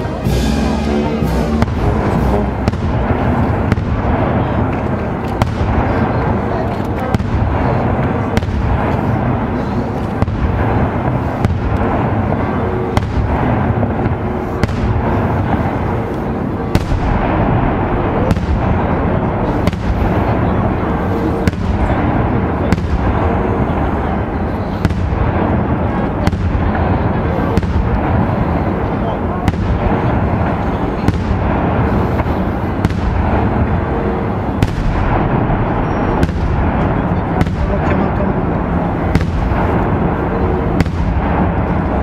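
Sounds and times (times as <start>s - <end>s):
continuous rumble: 0.0s - 42.0s
fireworks bursts and reports: 0.0s - 42.0s
sharp loud bangs: 0.0s - 42.0s.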